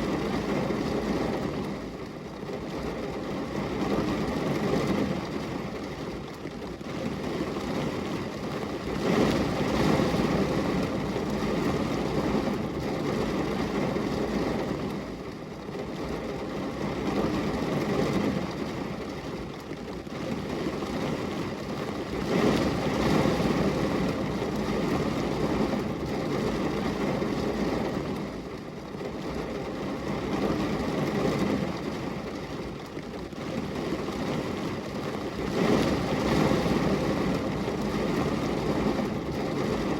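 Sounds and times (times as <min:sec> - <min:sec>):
rain against window pane: 0:00.0 - 0:39.9.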